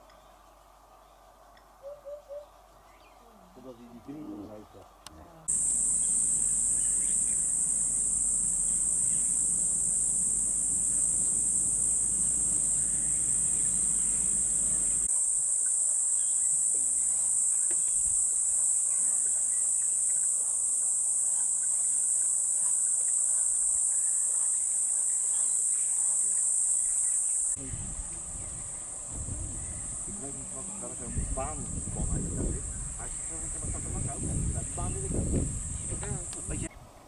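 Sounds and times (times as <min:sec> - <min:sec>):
insects droning: 0:05.4 - 0:37.0.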